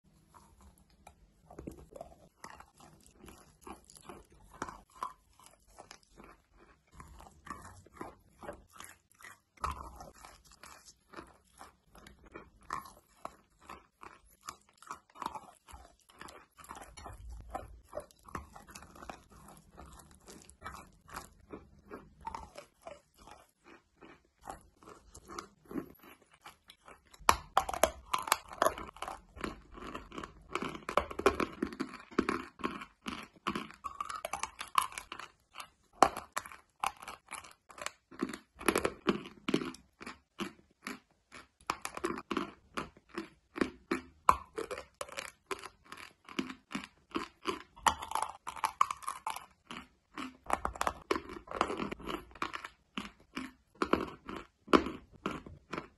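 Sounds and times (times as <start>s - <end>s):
crunching and chewing: 0.0s - 55.9s
wet mouth sounds: 0.1s - 55.9s.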